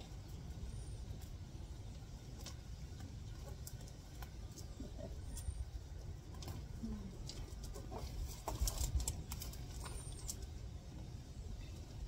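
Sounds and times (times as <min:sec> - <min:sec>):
gravel stones shifting: 0:00.0 - 0:10.8.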